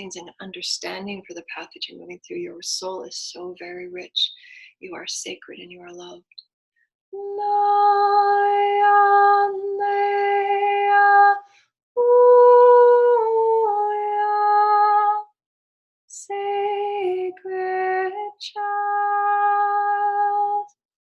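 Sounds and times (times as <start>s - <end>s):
woman singing wordless tones: 0.0s - 6.4s, 7.2s - 11.4s, 12.0s - 15.3s, 16.1s - 20.8s.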